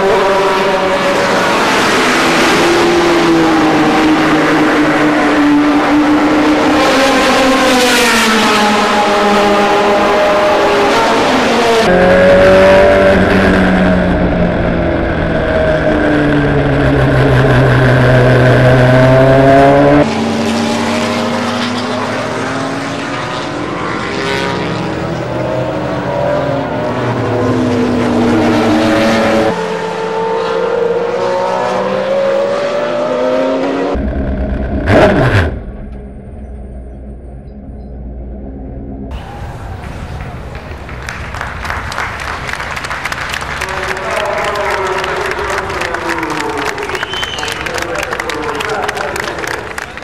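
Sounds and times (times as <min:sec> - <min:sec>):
race car engine revving: 0:00.0 - 0:50.0.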